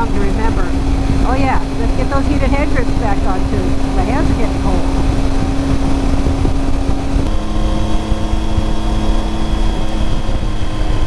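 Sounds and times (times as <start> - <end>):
motorcycle engine running: 0.0 - 11.0
road rumble: 0.0 - 11.0
wind noise: 0.0 - 11.0.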